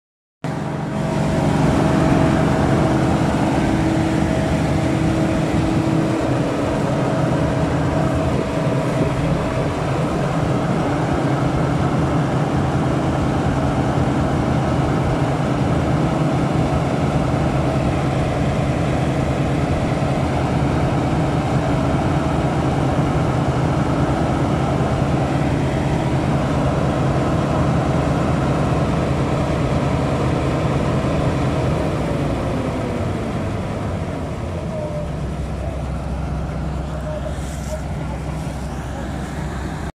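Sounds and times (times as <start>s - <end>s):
diesel engine running: 0.4s - 39.9s
high whine: 0.5s - 29.2s, 31.7s - 39.9s.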